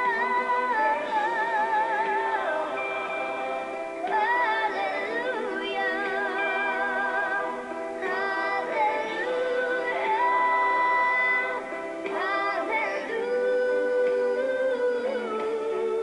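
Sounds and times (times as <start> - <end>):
girl singing a slow ballad: 0.0 - 16.0
instrumental accompaniment: 0.0 - 16.0.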